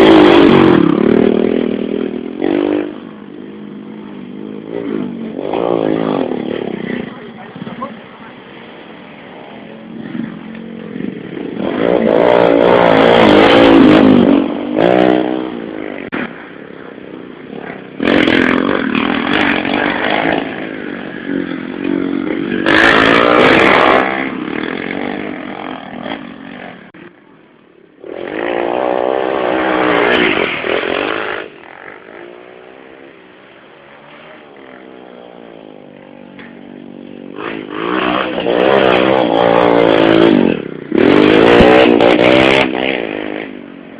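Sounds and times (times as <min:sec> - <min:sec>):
motorcycle engines revving past: 0:00.0 - 0:43.9.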